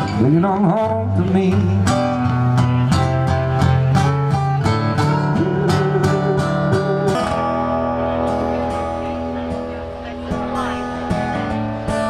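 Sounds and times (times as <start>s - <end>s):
acoustic guitars strumming chords: 0.0s - 12.0s.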